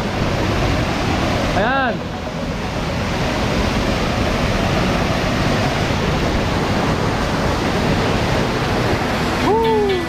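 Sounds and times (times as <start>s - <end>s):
waterfall pouring: 0.0s - 10.0s.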